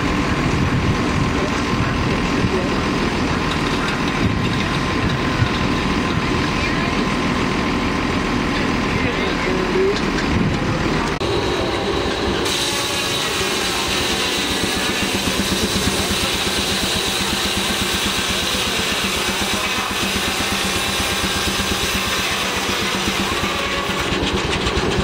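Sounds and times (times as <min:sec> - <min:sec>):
circular saw blade cutting log: 0:00.0 - 0:25.0
machinery beating: 0:00.0 - 0:25.0.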